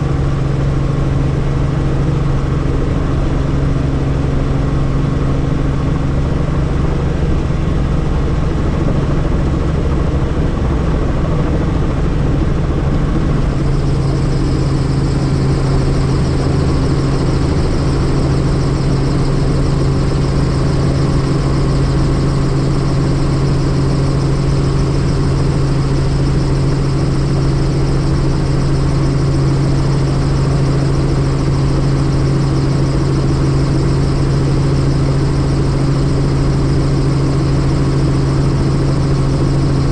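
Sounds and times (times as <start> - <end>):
helicopter turbine and rotor: 0.0 - 39.9
high whine: 1.2 - 39.9.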